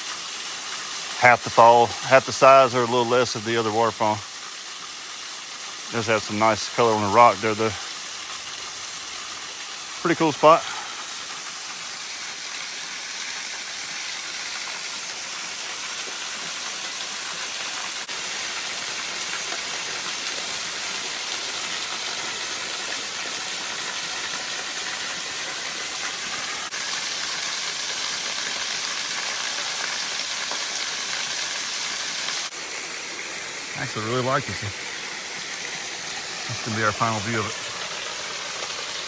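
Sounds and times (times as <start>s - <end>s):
waterfall hissing rush: 0.8s - 5.1s, 5.8s - 39.0s.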